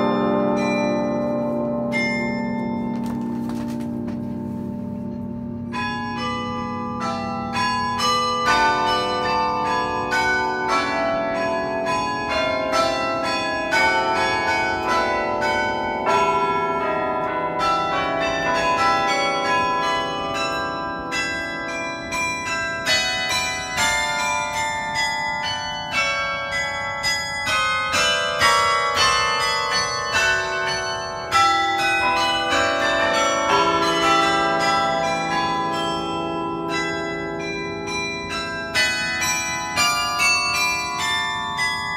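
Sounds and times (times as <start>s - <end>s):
carillon bells playing a melody: 0.0s - 41.9s.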